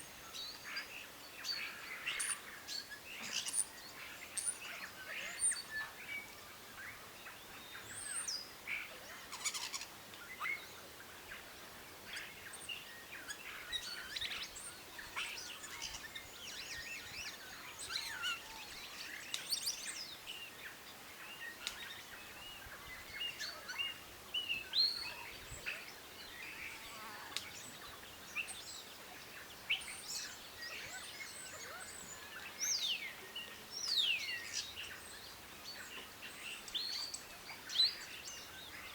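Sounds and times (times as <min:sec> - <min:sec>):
many birds chirping: 0:00.0 - 0:38.9.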